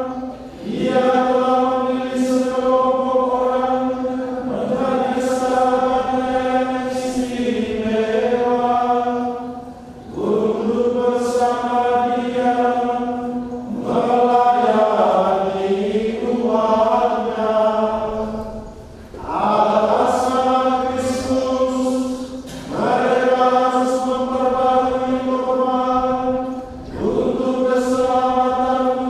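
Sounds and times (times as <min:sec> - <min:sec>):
man chanting prayer: 0:00.0 - 0:29.0.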